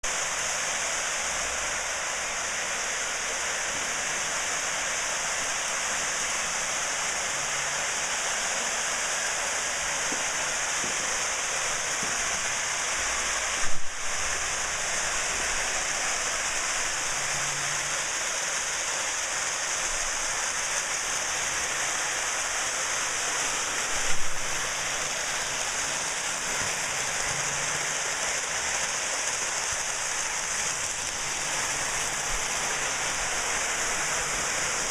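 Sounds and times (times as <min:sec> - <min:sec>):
steady hiss: 0:00.0 - 0:34.9.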